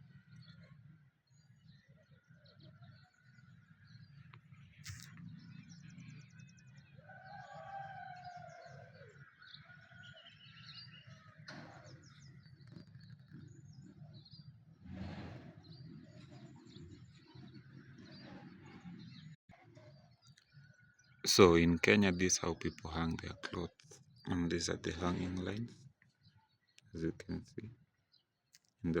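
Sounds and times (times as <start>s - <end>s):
birds chirping: 0.0s - 19.4s, 20.0s - 29.0s.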